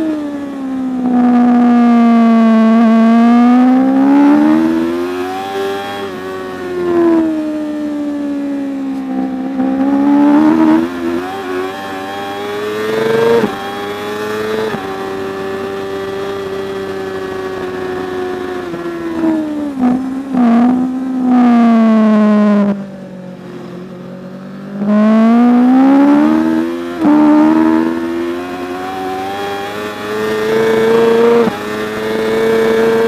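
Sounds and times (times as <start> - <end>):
motorcycle engine racing: 0.0 - 33.0.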